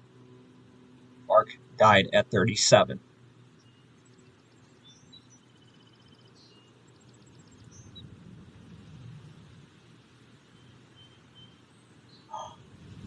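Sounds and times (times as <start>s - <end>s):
small birds chirping: 0.5s - 8.2s, 8.9s - 13.0s.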